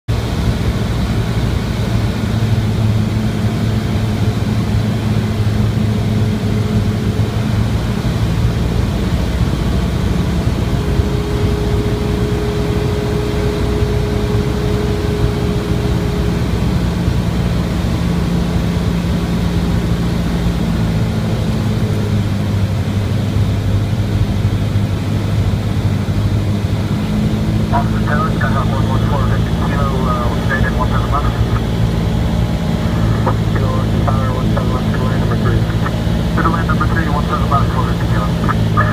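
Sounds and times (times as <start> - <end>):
airplane engine and propeller droning: 0.1 - 38.9.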